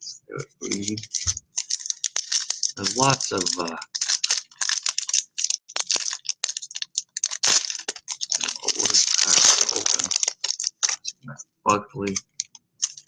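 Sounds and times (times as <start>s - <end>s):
card packs crinkling and rustling: 0.6s - 11.1s, 12.0s - 13.0s.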